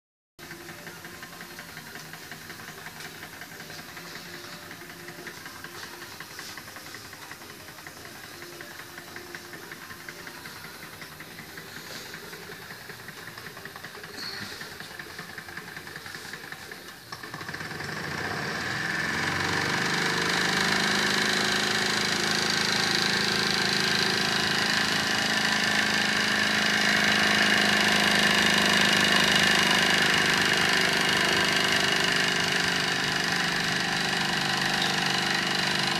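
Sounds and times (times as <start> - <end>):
model steam engine running: 0.4 - 35.9.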